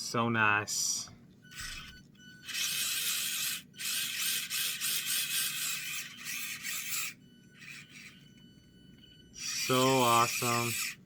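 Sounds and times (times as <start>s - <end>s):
small electric motor and gears whining: 1.4s - 11.0s.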